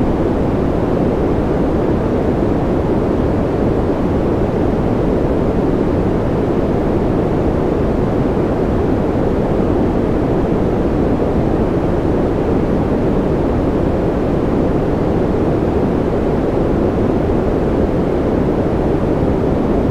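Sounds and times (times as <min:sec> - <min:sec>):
low white noise rush: 0:00.0 - 0:19.9.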